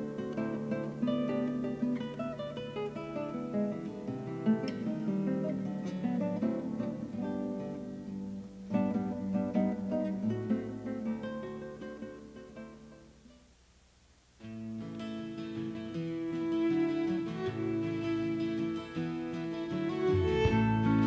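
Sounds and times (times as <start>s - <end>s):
plucked acoustic guitar music: 0.0s - 13.5s, 14.4s - 21.0s.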